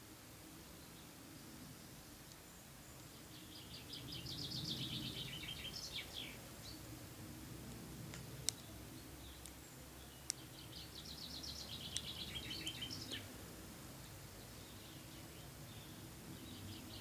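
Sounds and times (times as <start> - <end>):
outdoor background noise: 0.0 - 17.0
songbird singing: 0.0 - 17.0.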